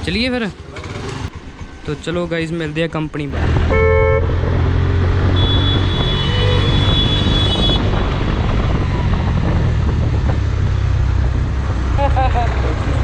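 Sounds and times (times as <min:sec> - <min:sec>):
motorcycle engine riding: 0:00.0 - 0:01.9, 0:03.3 - 0:13.0.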